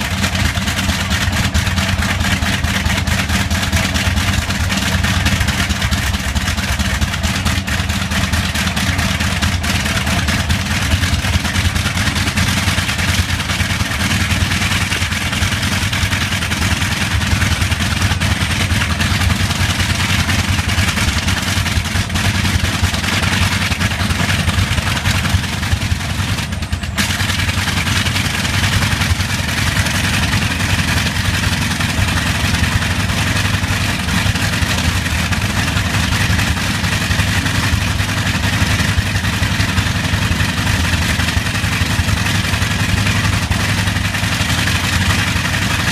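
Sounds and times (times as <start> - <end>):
radial aero engine running: 0.0 - 45.9.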